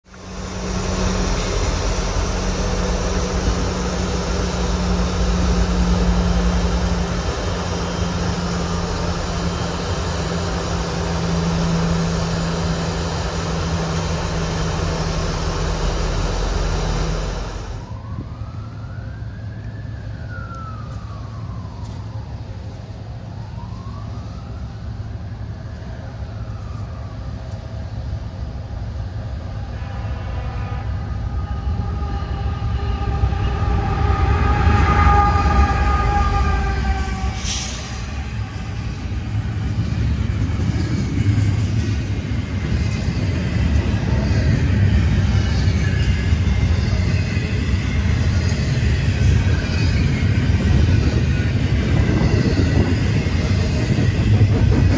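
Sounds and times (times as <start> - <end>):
locomotive engine rumble: 0.0 - 54.9
train approaching: 0.0 - 54.9
distant siren wailing: 0.2 - 28.4, 29.3 - 54.2.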